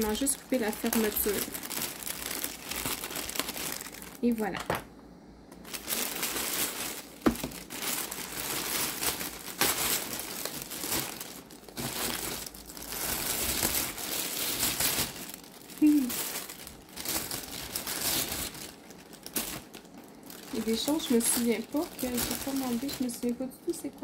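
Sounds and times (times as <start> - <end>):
plastic mailer bag crinkling: 0.0 - 4.9, 5.5 - 24.0.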